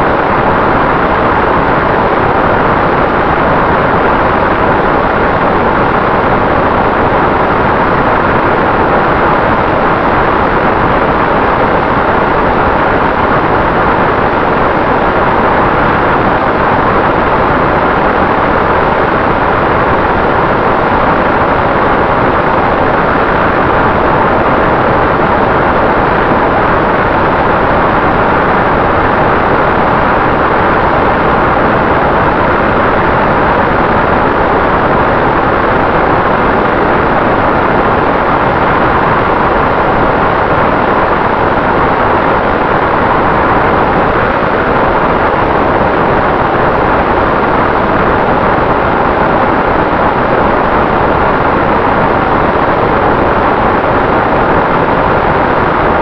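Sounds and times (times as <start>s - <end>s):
wind rush: 0.0s - 56.0s.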